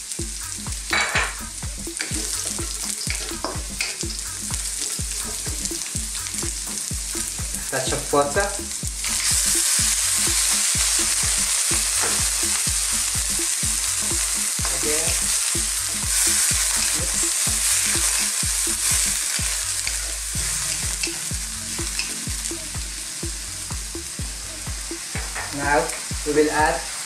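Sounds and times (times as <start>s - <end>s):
food sizzling in a hot wok: 0.0s - 27.0s.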